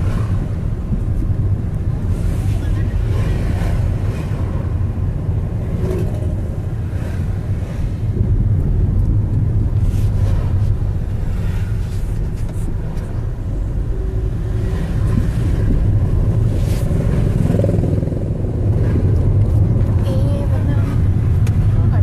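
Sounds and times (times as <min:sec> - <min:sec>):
car engine rumble: 0:00.0 - 0:22.0
road noise: 0:00.0 - 0:22.0.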